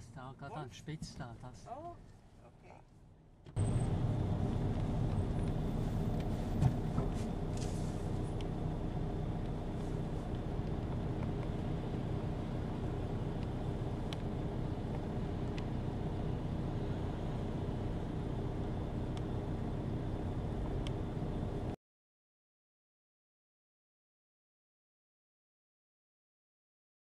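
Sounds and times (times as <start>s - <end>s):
car engine rumbling: 0.1s - 21.8s.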